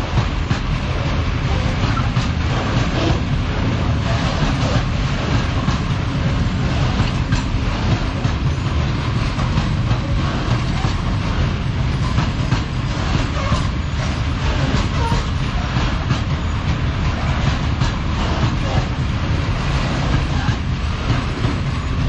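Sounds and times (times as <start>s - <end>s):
freight train rumbling past: 0.0s - 22.0s
wheels clicking over rail joints: 0.0s - 22.0s.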